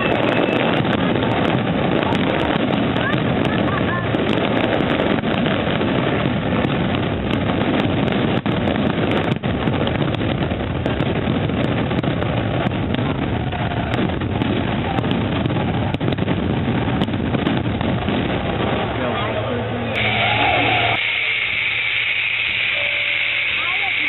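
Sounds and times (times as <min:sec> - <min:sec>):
fireworks barrage rumble: 0:00.0 - 0:24.0.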